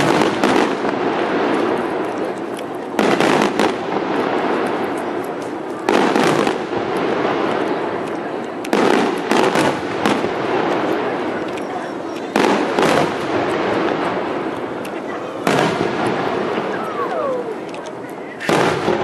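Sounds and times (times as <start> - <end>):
firework bangs: 0.0 - 19.0.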